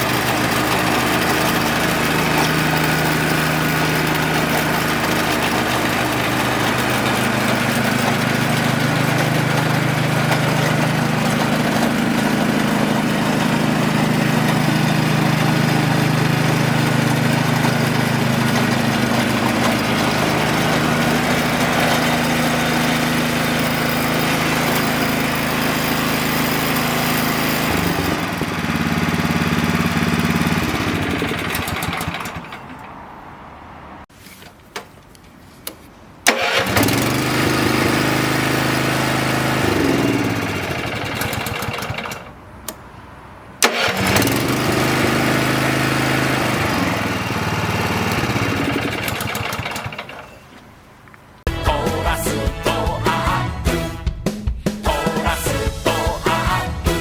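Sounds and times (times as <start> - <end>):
snowblower engine running: 0.0 - 32.9, 36.3 - 42.4, 43.6 - 50.3.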